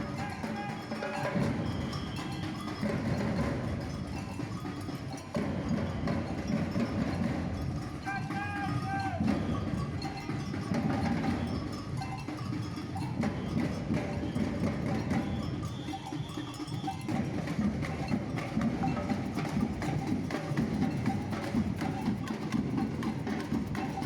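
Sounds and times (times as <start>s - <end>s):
cowbell: 0.0s - 24.0s
samba drums: 0.0s - 24.0s.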